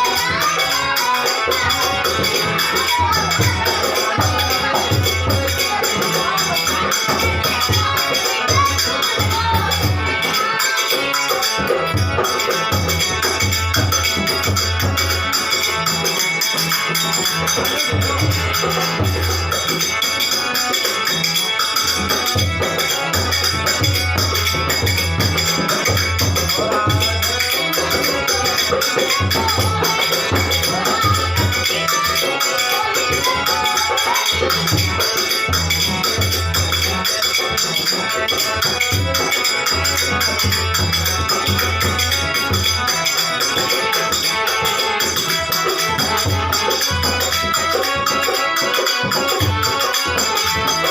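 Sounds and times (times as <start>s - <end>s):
devotional music: 0.0s - 50.9s
jingling percussion: 0.0s - 50.9s.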